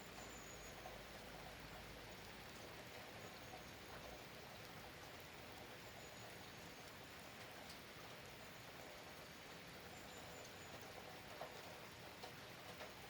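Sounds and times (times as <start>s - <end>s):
faint rainfall patter: 0.0s - 13.0s.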